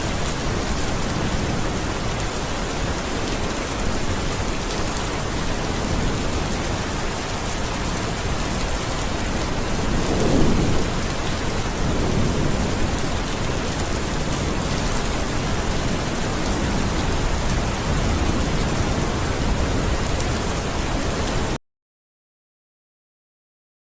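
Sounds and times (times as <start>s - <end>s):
low rumble of thunder: 0.0s - 21.6s
steady rain falling: 0.0s - 21.6s.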